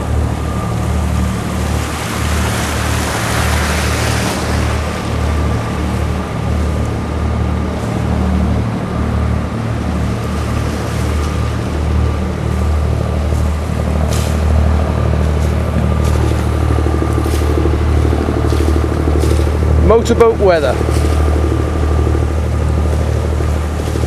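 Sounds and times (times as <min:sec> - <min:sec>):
motorboat engine droning: 0:00.0 - 0:24.0.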